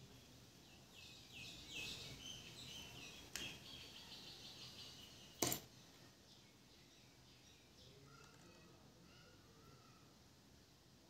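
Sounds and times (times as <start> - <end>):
bird singing: 0.0 - 10.0.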